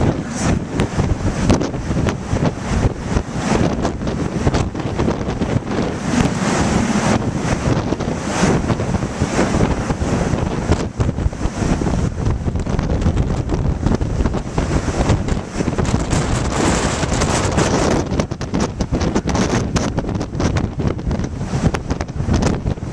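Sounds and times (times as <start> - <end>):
wind gusting against microphone: 0.0 - 22.9.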